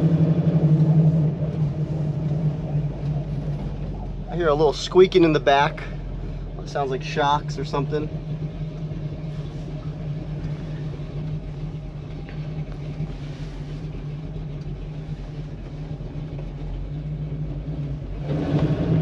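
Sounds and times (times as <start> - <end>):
car engine humming from inside: 0.0 - 19.0.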